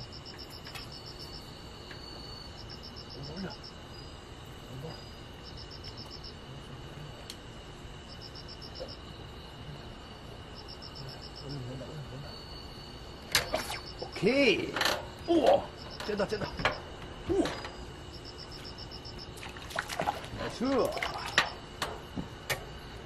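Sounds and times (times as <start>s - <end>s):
insects trilling: 0.0s - 23.0s
rapid insect chirps: 0.0s - 23.0s.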